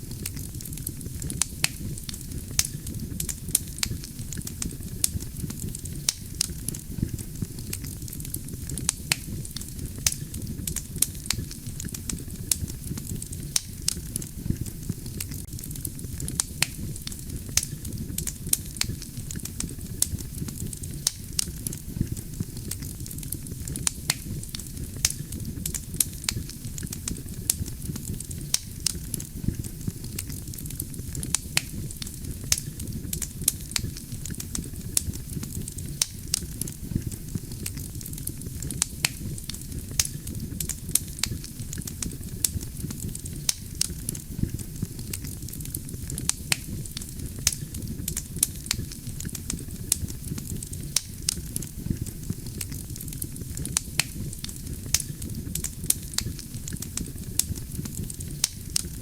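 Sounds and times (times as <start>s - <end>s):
burning logs crackling and popping: 0.0s - 59.0s
low rumble of flames: 0.0s - 59.0s.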